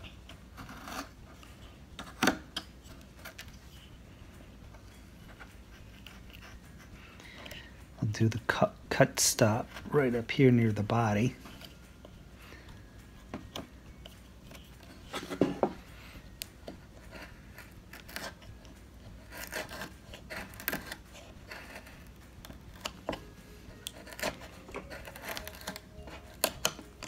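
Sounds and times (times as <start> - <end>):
knife carving wood: 0.0 - 27.0.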